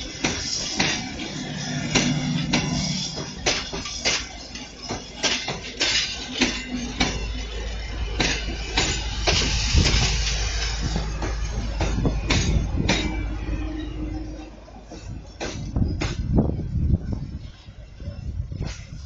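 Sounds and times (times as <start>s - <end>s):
train wheels clattering over rail joints: 0.0s - 19.0s.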